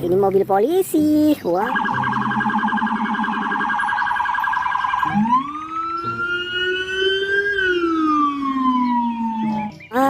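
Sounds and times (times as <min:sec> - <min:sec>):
electronic police siren: 0:01.6 - 0:10.0.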